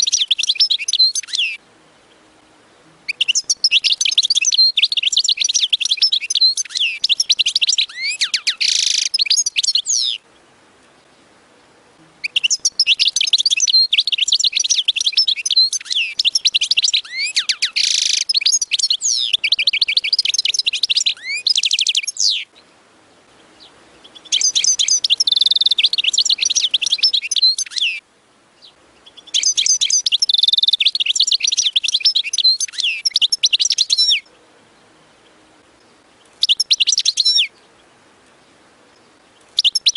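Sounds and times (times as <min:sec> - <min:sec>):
goldfinch twittering song: 0:00.0 - 0:02.2, 0:03.0 - 0:28.0, 0:28.6 - 0:39.9.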